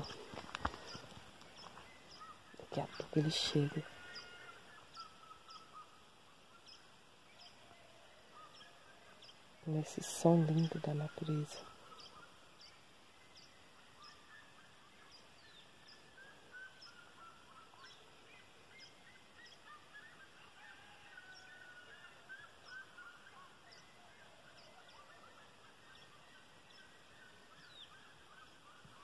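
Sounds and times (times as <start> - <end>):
chatter of birds: 0.0 - 29.0.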